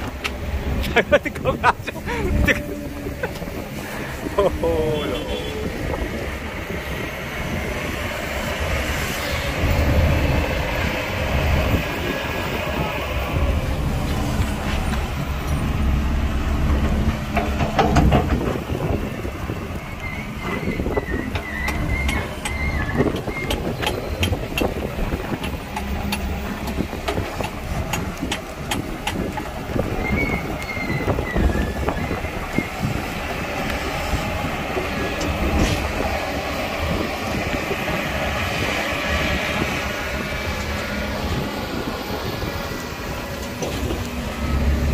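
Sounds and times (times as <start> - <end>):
diesel engine rumble: 0.0 - 44.9.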